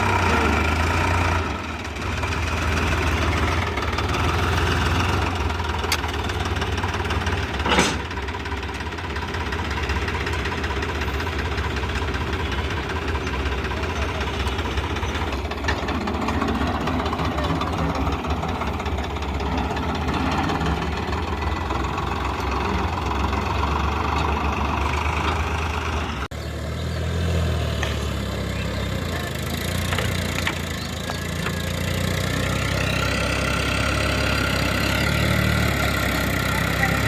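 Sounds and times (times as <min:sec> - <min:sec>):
different engine sound: 0:00.0 - 0:37.0
tractor diesel engine throbbing: 0:00.0 - 0:37.0.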